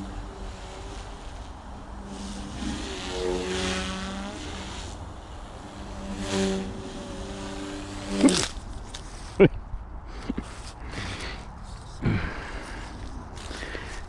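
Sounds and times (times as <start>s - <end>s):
rc helicopter rotors whining: 0.0s - 9.4s, 10.2s - 14.0s.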